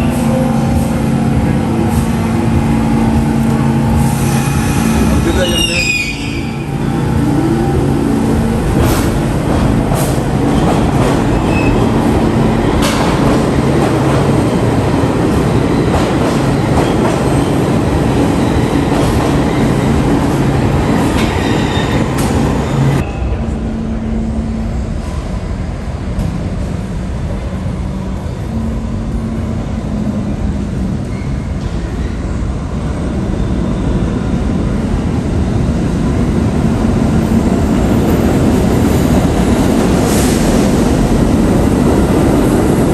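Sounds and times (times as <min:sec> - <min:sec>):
subway train wheel rumble: 0:00.0 - 0:42.9.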